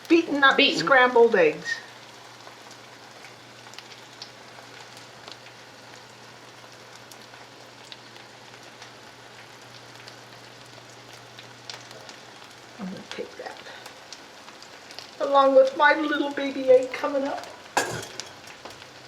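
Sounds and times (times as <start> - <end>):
batter sizzling in a pan: 0.0 - 19.0.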